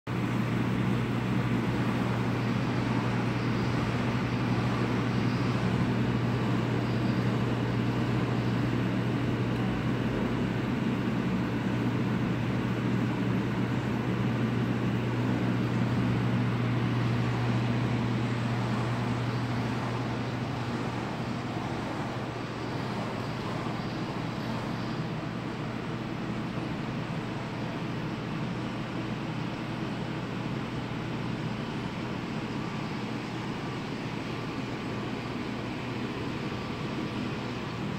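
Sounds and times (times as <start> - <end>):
equipment fans humming: 0.0 - 37.9.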